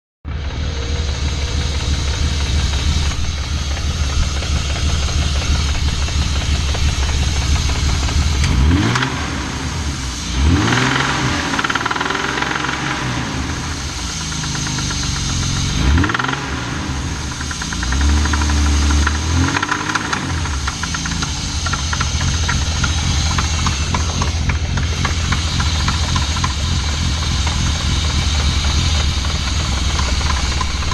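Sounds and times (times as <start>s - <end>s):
engine rattling and knocking: 0.2s - 30.9s
car engine revving: 0.3s - 30.9s.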